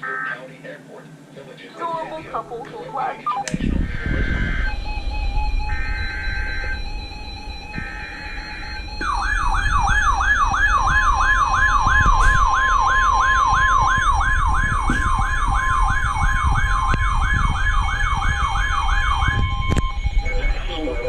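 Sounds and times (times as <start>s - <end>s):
steady attention tone: 1.2s - 21.0s
digital data buzz: 2.9s - 21.0s
falling siren-like alert tone: 2.9s - 21.0s.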